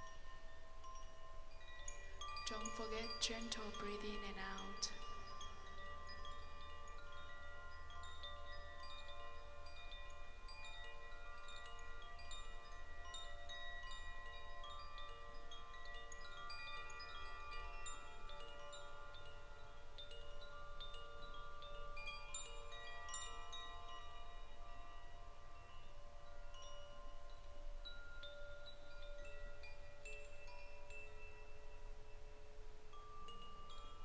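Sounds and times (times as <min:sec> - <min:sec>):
chimes ringing: 0:00.0 - 0:34.0.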